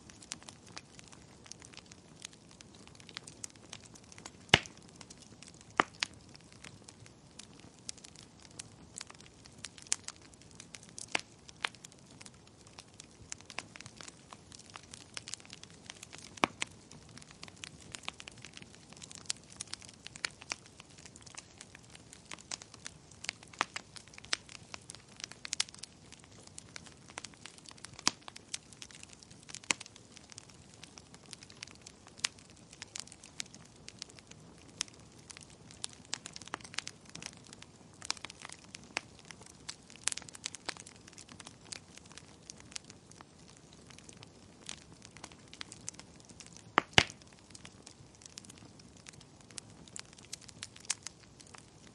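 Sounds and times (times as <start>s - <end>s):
faint steady hiss: 0.0s - 51.9s
wood fire crackling: 0.0s - 51.9s.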